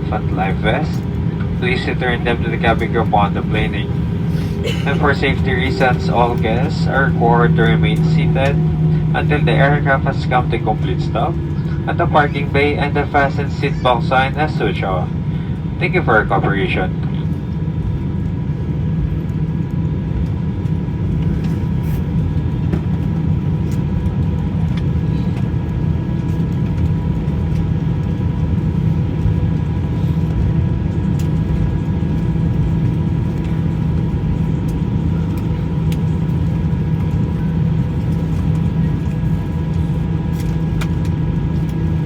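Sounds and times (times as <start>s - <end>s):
faint engine whine: 0.0s - 42.0s
jet airliner cabin rumble: 0.0s - 42.0s.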